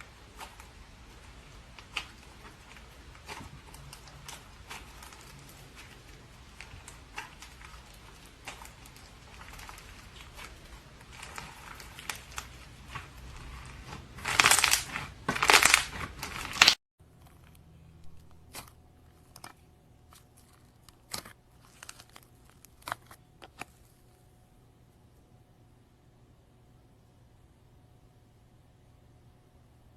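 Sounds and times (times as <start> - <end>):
slime squishing by hand: 0.0 - 24.3.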